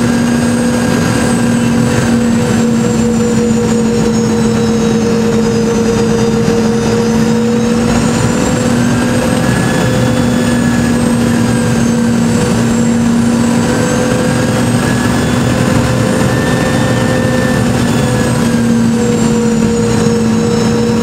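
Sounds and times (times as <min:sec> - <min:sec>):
jet engine cabin drone: 0:00.0 - 0:21.0.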